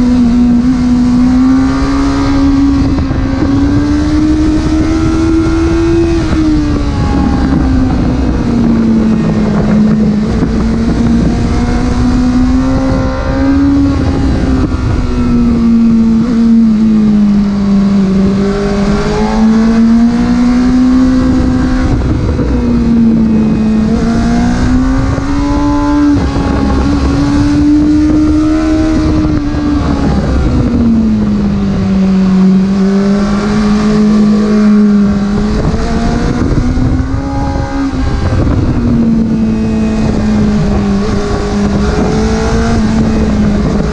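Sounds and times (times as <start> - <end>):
car engine revving: 0.0 - 43.9
road and wind noise: 0.0 - 43.9.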